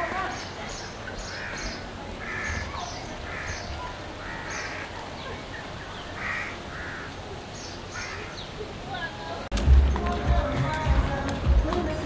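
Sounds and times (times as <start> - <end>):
birds calling roughly: 0.0 - 12.0.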